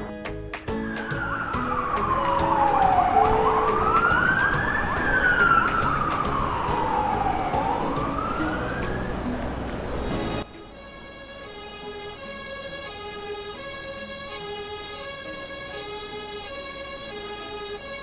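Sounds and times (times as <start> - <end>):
background music: 0.0 - 18.0
fire engine siren wailing: 0.7 - 18.0.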